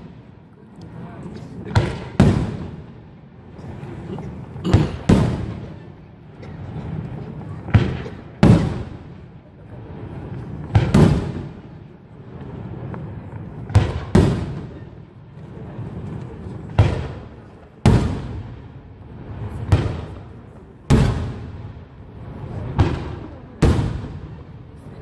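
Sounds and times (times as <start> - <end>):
firework bangs with echo: 1.6 - 3.6, 4.6 - 5.9, 7.6 - 24.9.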